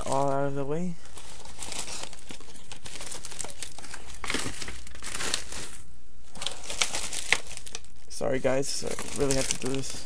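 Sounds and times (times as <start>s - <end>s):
plastic wrappers crinkling: 0.0s - 10.0s.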